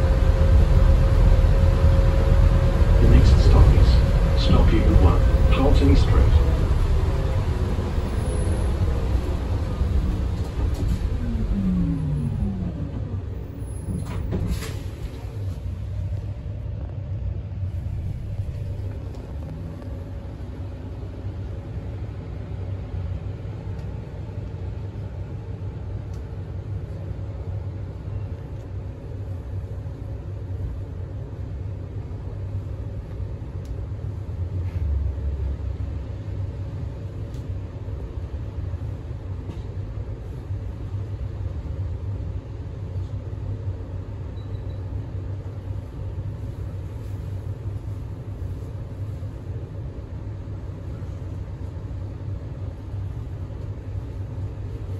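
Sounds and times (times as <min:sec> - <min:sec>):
bus drivetrain and road rumble: 0:00.0 - 0:54.9.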